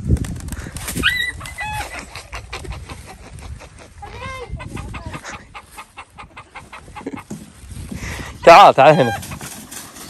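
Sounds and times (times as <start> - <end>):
chickens clucking: 1.1 - 10.0.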